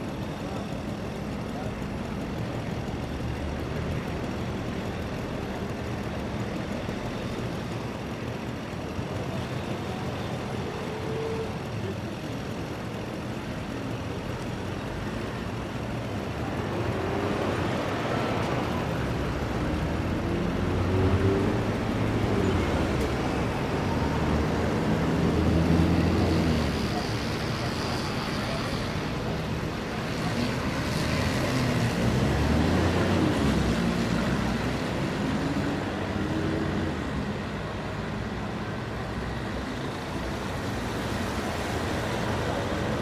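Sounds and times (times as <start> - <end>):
road traffic: 0.0 - 43.0.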